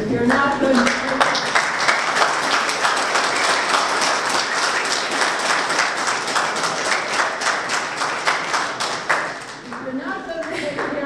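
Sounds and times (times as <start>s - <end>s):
audience clapping: 0.3s - 11.0s.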